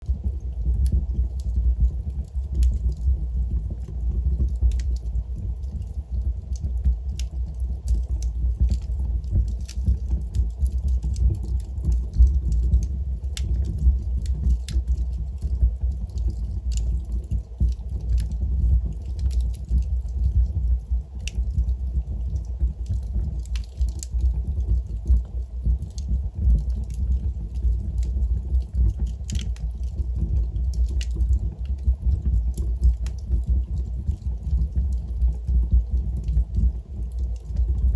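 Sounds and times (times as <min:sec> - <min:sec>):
log fire crackling and popping: 0:00.0 - 0:37.9.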